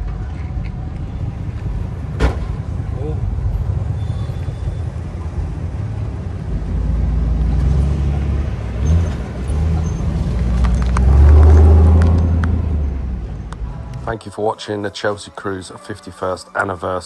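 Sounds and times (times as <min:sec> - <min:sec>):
cars driving past: 0:00.0 - 0:14.2.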